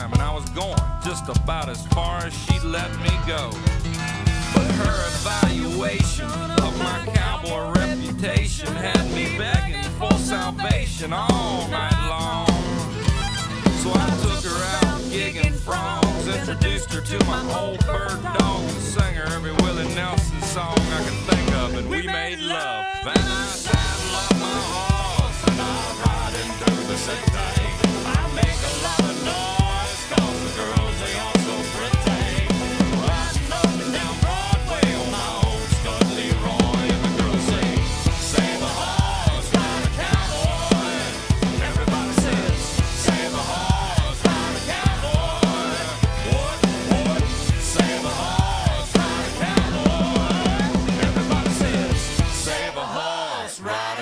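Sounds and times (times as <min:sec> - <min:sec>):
drum kit beat with cymbals: 0:00.0 - 0:52.8
country-rock recording: 0:00.0 - 0:54.0.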